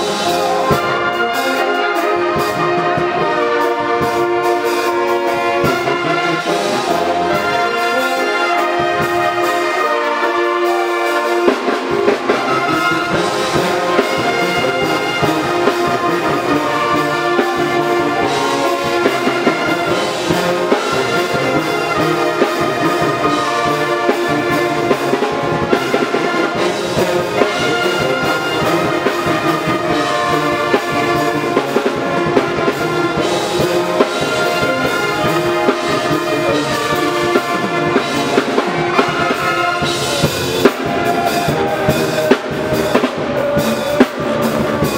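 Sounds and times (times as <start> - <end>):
brass pep band playing: 0.0 - 44.9.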